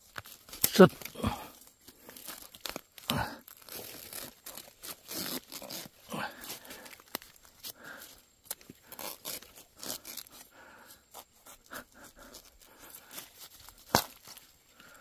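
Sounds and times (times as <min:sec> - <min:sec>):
leaves and twigs crackling: 0:00.0 - 0:15.0.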